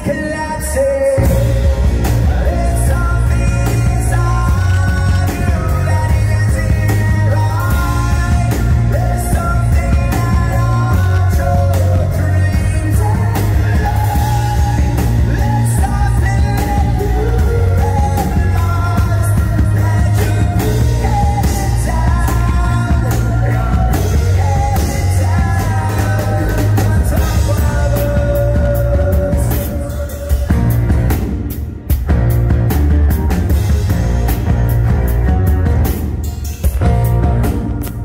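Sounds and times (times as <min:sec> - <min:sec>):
lead singer singing: 0:00.0 - 0:32.0
acoustic rock band playing: 0:00.0 - 0:38.0.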